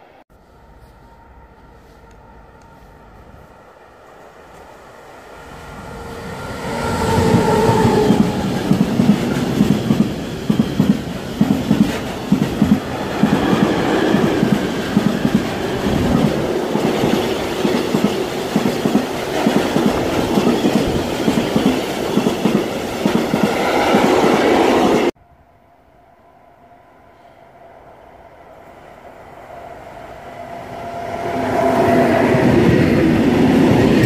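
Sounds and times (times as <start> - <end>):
rushing train noise: 0.0 - 25.2, 26.1 - 34.0
electric locomotive whine: 0.0 - 34.0.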